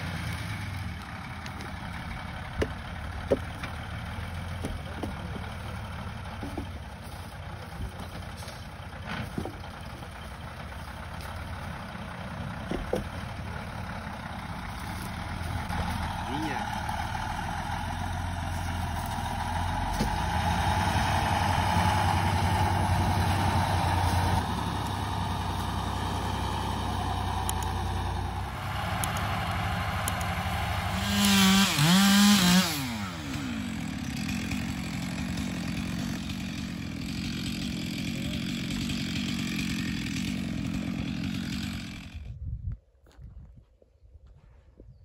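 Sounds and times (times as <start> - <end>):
chainsaw engine revving: 0.0 - 42.3.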